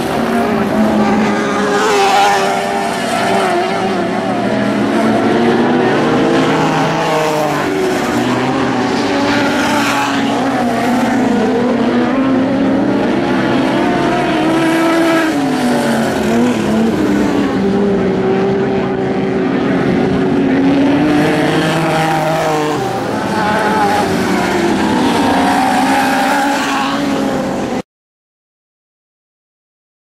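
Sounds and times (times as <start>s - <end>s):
race car engines revving: 0.0s - 27.8s.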